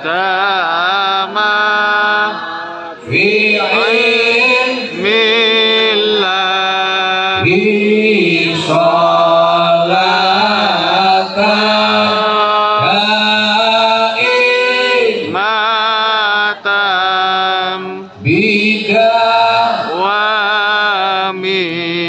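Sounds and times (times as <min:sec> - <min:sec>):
person chanting over loudspeaker: 0:00.0 - 0:22.0.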